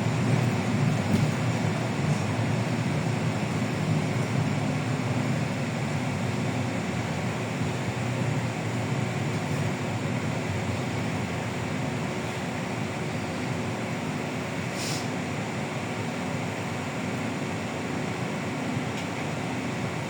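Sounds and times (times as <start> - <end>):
bus engine and road drone: 0.0 - 20.0.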